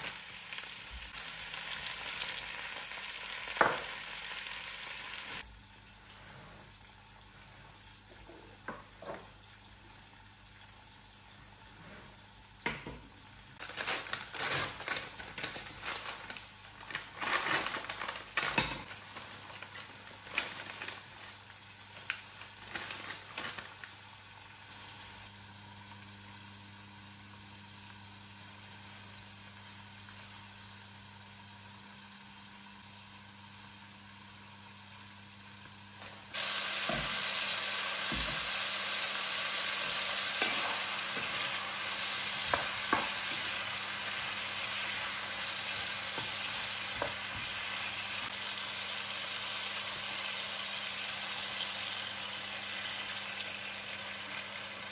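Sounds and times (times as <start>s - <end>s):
food sizzling in a pan: 0.0s - 54.9s.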